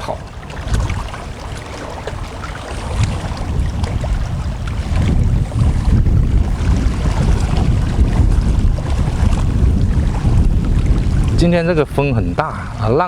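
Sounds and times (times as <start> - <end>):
waves washing on shallow water: 0.0 - 13.0
wind buffeting the microphone: 0.0 - 13.0.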